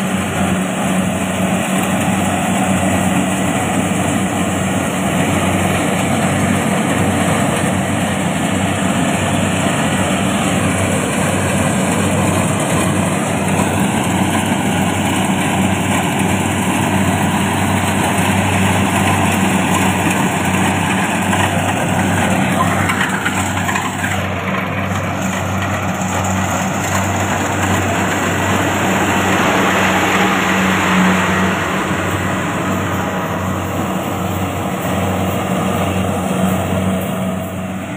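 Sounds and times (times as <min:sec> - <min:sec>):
combine harvester engine drone: 0:00.0 - 0:37.9
machinery rushing and clattering: 0:00.2 - 0:37.9.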